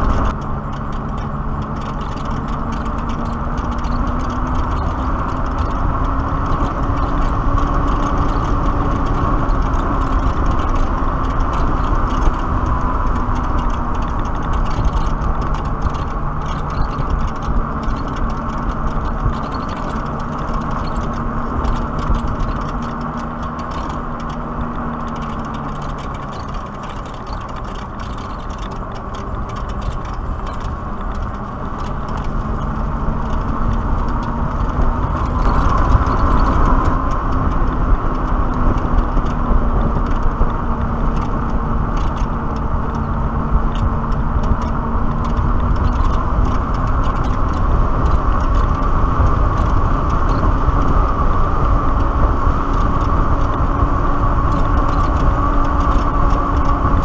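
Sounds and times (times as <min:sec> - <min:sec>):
tyre noise on asphalt: 0:00.0 - 0:57.0
wind rushing over microphone: 0:00.0 - 0:57.0.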